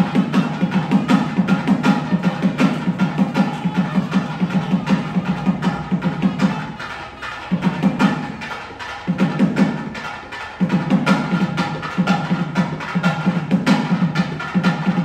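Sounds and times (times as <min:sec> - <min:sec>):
festive drumming music: 0:00.0 - 0:15.0.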